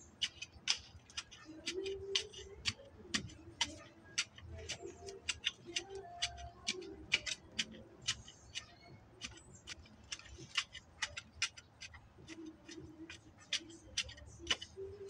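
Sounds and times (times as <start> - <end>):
sharp high clicks: 0.2 - 14.8.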